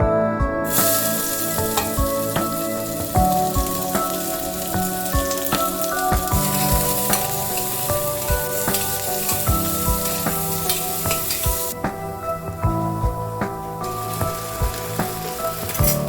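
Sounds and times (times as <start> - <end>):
background music: 0.0 - 16.0
food sizzling in hot oil: 0.7 - 11.8, 13.7 - 16.0.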